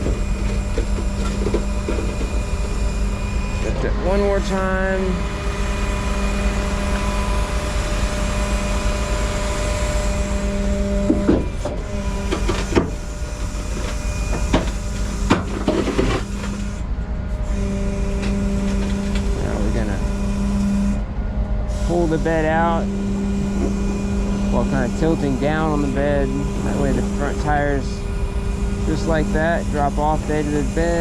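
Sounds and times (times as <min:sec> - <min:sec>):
hydraulic hum: 0:00.0 - 0:31.0.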